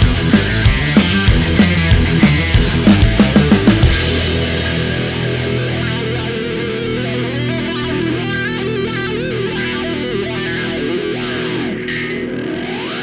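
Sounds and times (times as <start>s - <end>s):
electric guitar rock melody: 0.0s - 13.0s.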